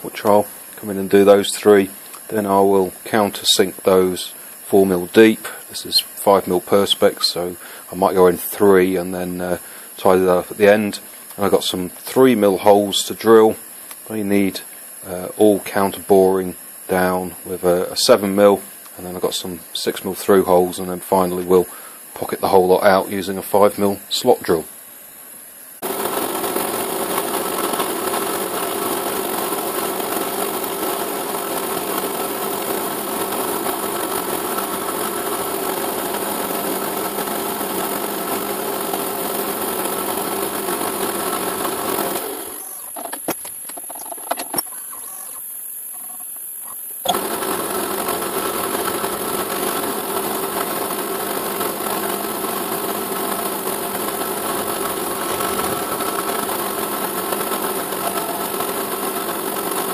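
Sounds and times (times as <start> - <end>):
milling machine buzzing: 0.0 - 59.9
stepper motor hiss: 0.0 - 59.9.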